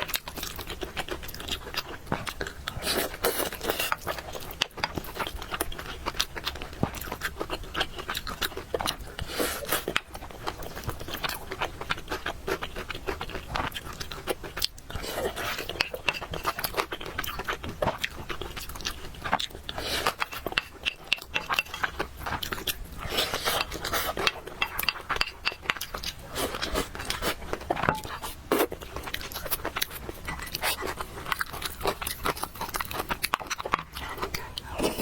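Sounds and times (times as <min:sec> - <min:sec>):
chewing and slurping noodles: 0:00.0 - 0:35.0.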